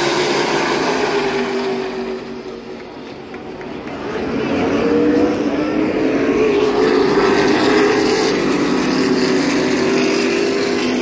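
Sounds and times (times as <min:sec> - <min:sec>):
race car engines passing: 0:00.0 - 0:11.0.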